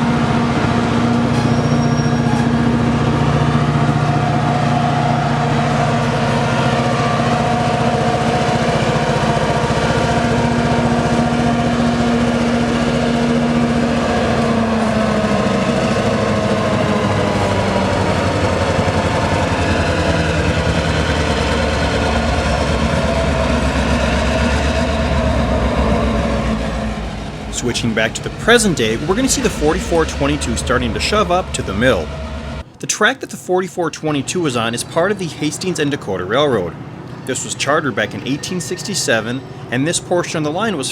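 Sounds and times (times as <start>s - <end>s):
diesel locomotive engine running: 0.0s - 40.9s.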